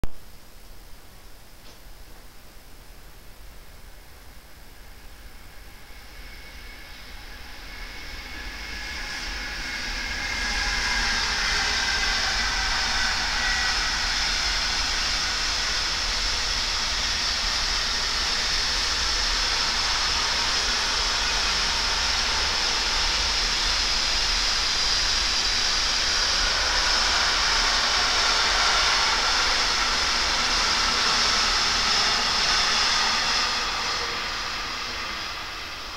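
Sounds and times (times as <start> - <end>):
freight train wheels roaring: 4.6 - 35.9.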